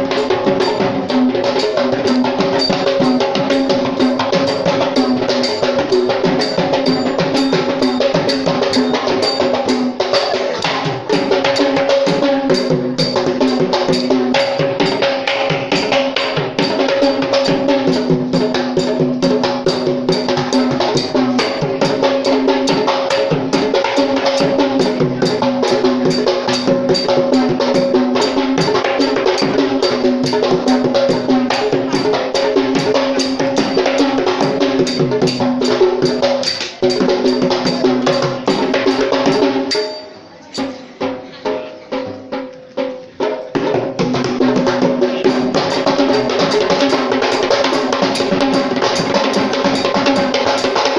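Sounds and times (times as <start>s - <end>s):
hand drums in fast rhythm: 0.0s - 50.9s.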